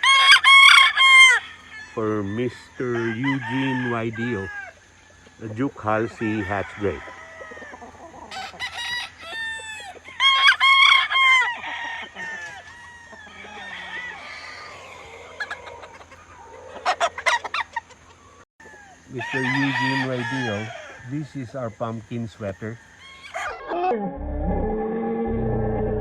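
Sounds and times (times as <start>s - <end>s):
chickens clucking: 0.0s - 24.3s
roosters crowing: 0.0s - 26.0s.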